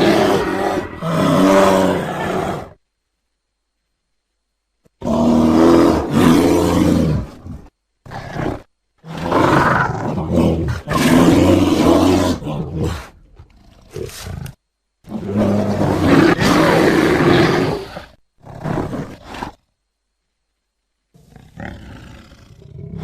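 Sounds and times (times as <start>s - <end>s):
bear roaring: 0.0s - 2.8s, 5.0s - 19.6s, 21.2s - 23.0s.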